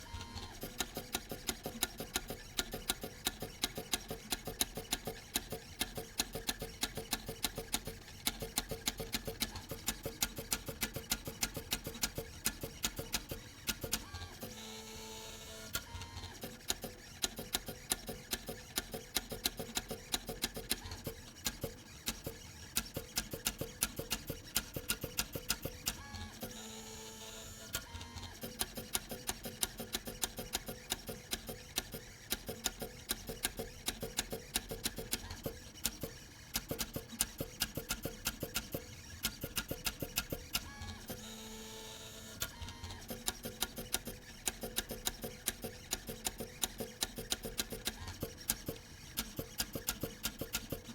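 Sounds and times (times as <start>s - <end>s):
pen plotter motors clicking: 0.0s - 50.9s.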